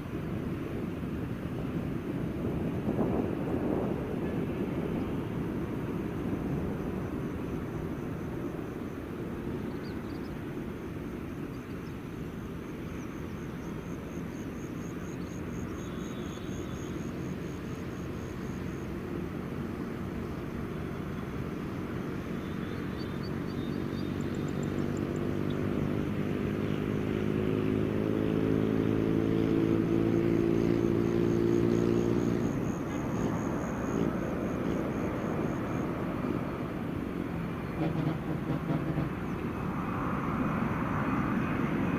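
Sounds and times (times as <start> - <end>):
airliner engine drone: 0.0 - 41.9.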